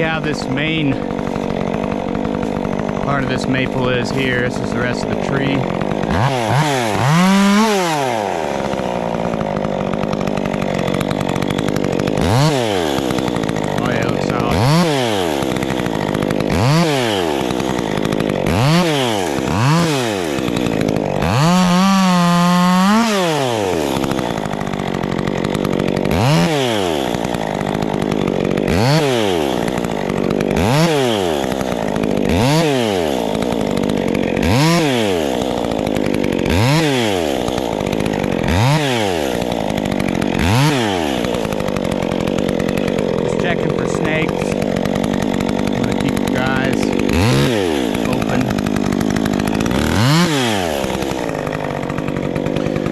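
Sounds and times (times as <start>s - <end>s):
chainsaw idling and revving: 0.0s - 52.9s.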